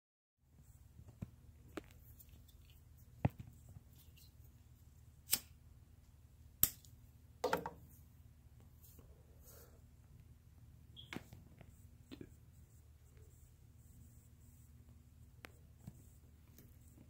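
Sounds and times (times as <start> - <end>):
low steady hum: 0.5 - 17.0.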